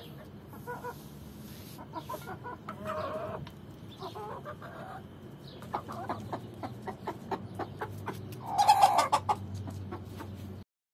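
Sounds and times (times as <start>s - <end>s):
chickens clucking: 0.0s - 10.6s
chicken squawk: 0.1s - 10.3s.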